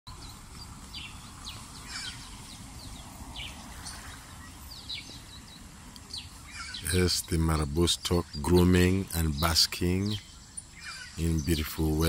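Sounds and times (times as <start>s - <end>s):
low outdoor rumble: 0.1s - 12.0s
small birds chirping: 0.1s - 12.0s.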